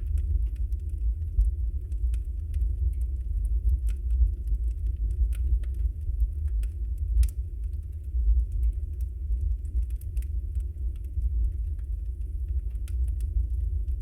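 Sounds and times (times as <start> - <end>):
fire burning rumble: 0.0 - 14.0
logs crackling and popping: 0.0 - 14.0.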